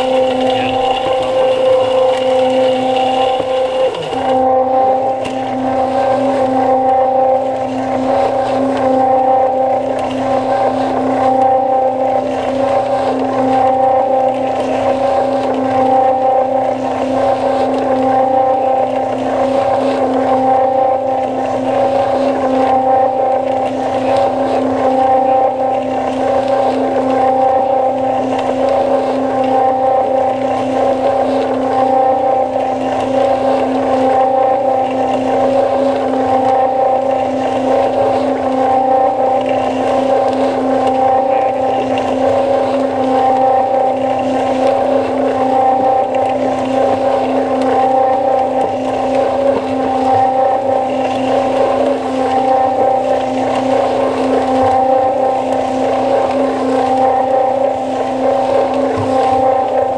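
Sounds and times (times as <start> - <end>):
cement mixer motor hum: 0.0 - 59.9
wet concrete tumbling in drum: 0.0 - 59.9.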